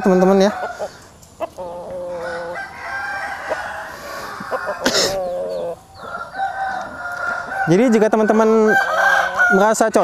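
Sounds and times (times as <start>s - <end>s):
roosters crowing: 0.0s - 10.0s.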